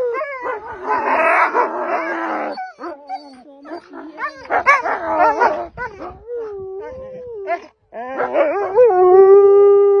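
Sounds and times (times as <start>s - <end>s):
wolves yipping and whining: 0.0s - 9.3s
wolf howling: 0.0s - 10.0s.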